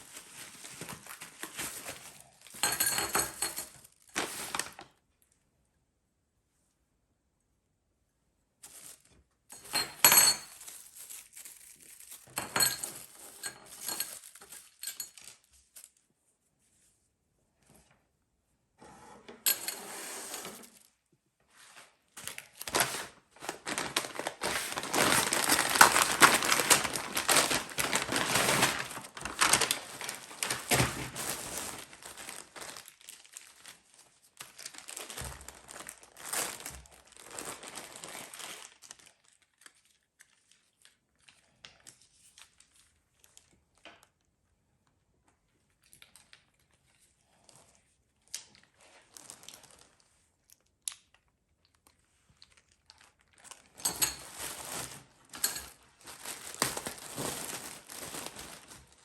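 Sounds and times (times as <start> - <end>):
crinkling and rustling handling: 0.0 - 5.4, 8.6 - 18.2, 18.8 - 59.0.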